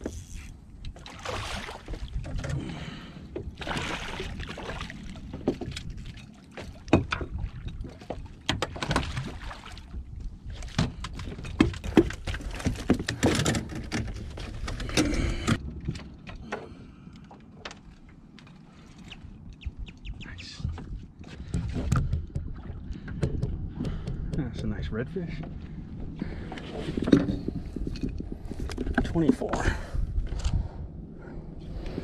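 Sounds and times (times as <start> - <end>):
wind rumble on microphone: 0.0 - 16.3, 19.1 - 32.0.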